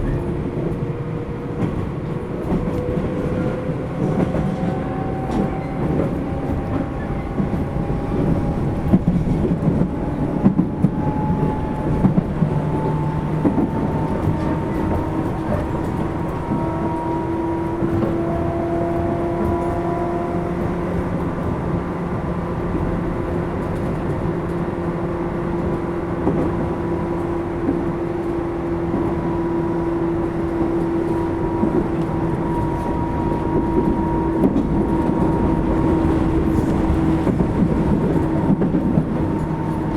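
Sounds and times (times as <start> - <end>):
train wheels rumbling over track: 0.0 - 39.9.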